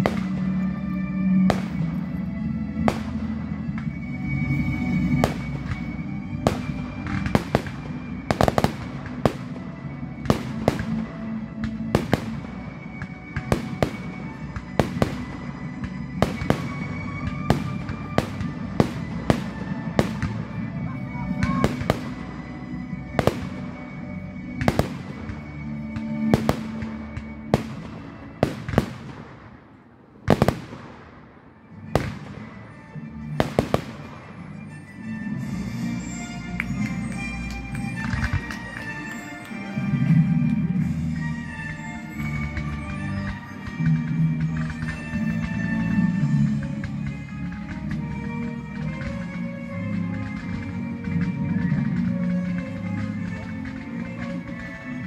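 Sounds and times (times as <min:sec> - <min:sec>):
fireworks bursting bangs: 0:00.0 - 0:55.0
music playing: 0:00.0 - 0:55.0.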